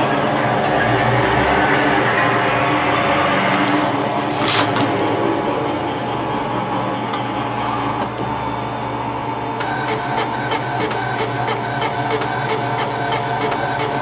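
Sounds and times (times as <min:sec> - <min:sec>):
electronic drone: 0:00.0 - 0:14.0.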